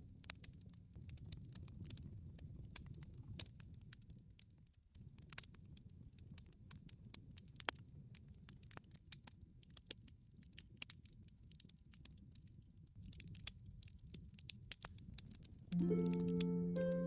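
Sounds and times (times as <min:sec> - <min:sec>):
low rumble of burning fire: 0:00.0 - 0:16.7
campfire crackling and popping: 0:00.0 - 0:17.0.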